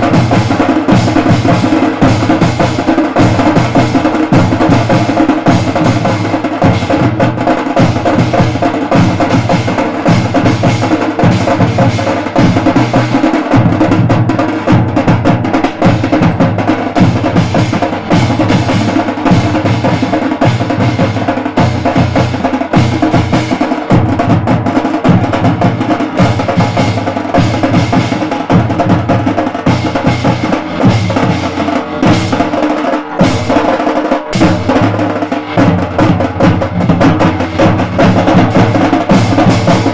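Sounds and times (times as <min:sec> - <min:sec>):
fast drum beat: 0:00.0 - 0:39.9
live band playing loud music: 0:00.0 - 0:39.9.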